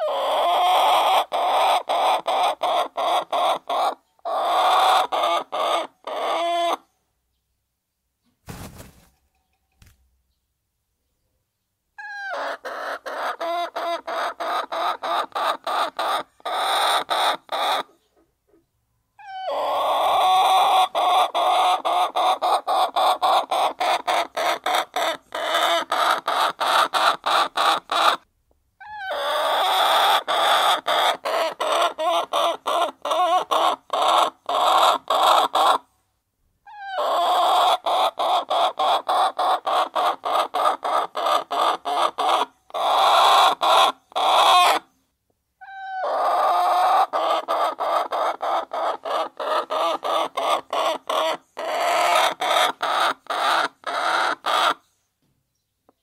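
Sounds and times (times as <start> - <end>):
hens clucking: 0.0 - 6.8, 12.0 - 18.6, 19.2 - 28.2, 28.9 - 35.8, 36.8 - 44.8, 45.6 - 54.8.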